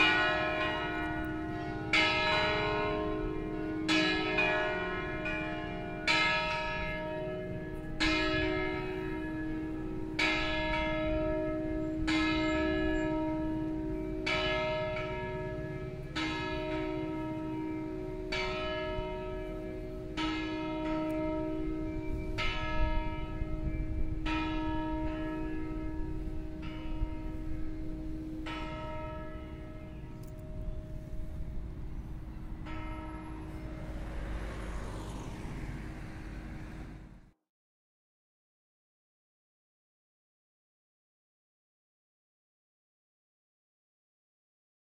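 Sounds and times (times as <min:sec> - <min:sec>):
church bells ringing: 0:00.0 - 0:37.2.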